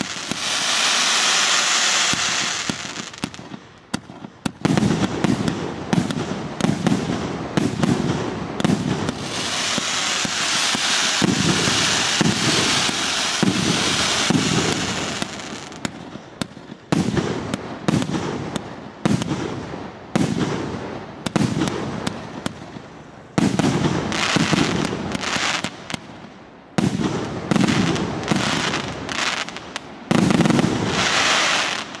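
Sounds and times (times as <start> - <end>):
dense firework hiss: 0.0 - 19.4, 20.2 - 26.2, 26.8 - 32.0.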